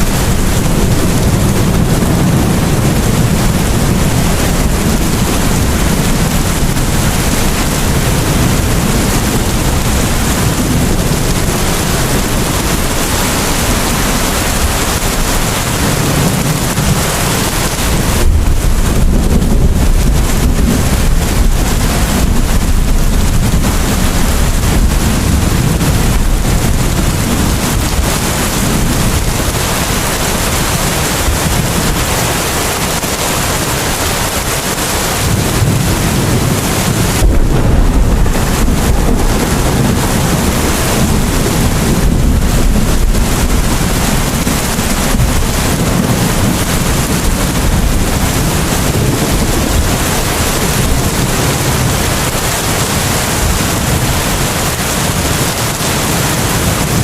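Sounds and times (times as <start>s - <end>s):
low rumble: 0.0s - 32.1s, 34.0s - 51.3s
heavy rain falling: 0.0s - 57.0s.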